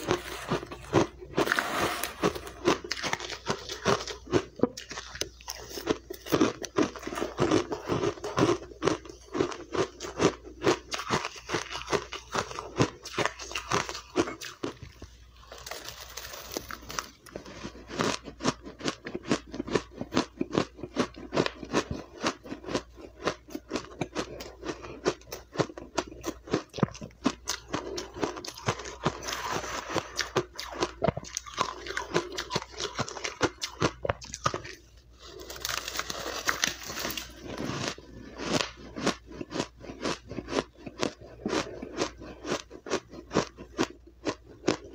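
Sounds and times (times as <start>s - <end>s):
person chewing crushed ice: 0.0s - 44.9s.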